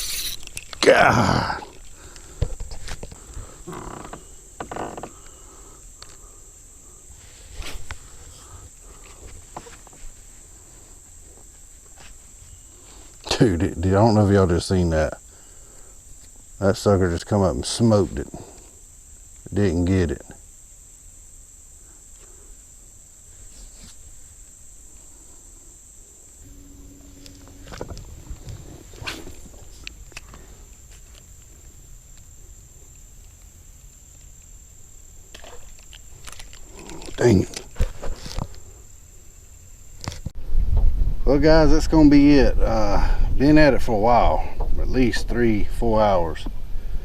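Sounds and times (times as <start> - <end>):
insects droning: 0.0 - 47.0.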